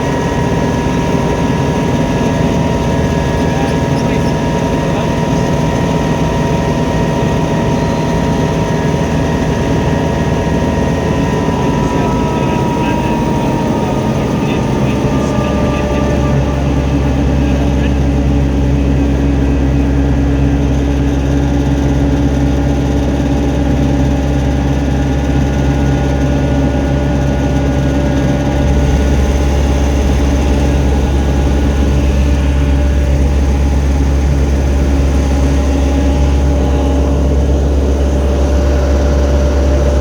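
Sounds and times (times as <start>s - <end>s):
helicopter engine and rotor: 0.0s - 40.0s.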